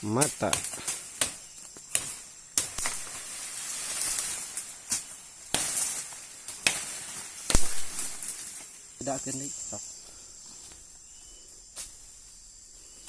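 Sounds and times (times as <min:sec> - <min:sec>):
rustling hiss: 0:00.0 - 0:13.0.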